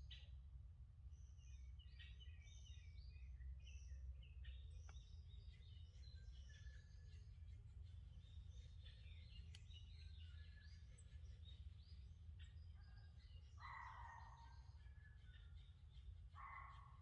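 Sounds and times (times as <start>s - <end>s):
birdsong chirps and trills: 0.0s - 17.0s.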